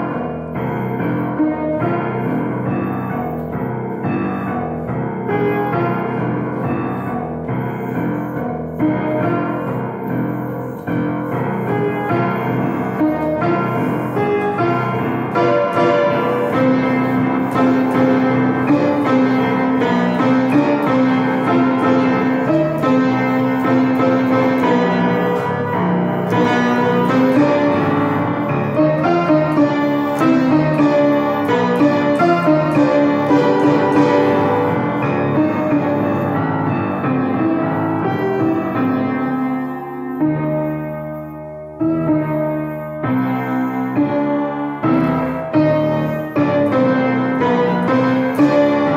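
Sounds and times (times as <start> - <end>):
piano music: 0.0 - 48.9.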